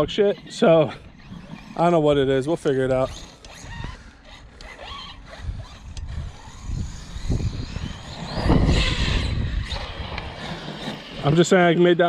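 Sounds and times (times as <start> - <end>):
rc truck motor running: 0.0 - 12.0.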